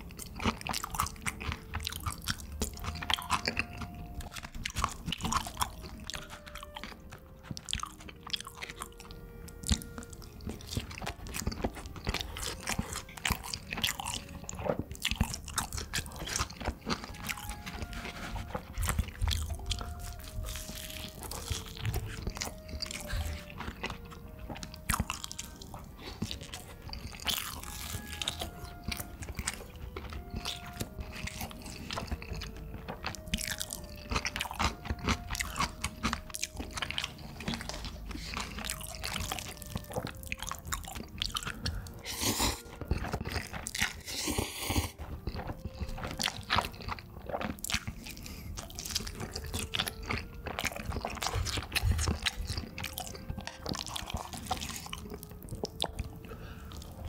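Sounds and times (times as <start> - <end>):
crunchy bites and chewing: 0.0 - 57.0
soft background melody: 0.0 - 57.0.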